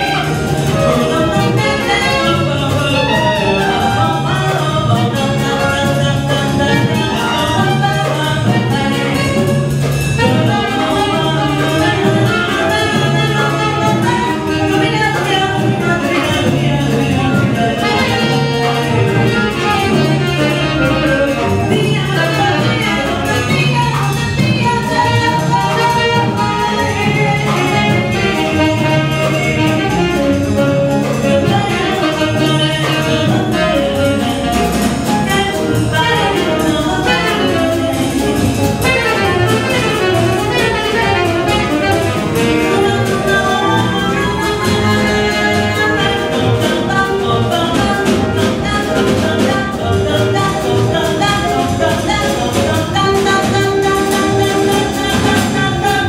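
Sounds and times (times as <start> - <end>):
drum kit: 0.0 - 56.0
piano: 0.0 - 56.0
tenor saxophone solo: 0.0 - 56.0
upright double bass: 0.0 - 56.0.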